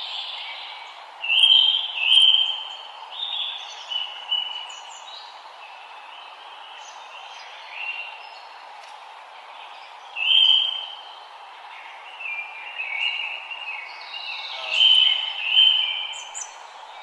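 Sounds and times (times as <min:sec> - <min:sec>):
songbirds singing: 0:00.0 - 0:17.0
steady background hiss: 0:00.0 - 0:17.0.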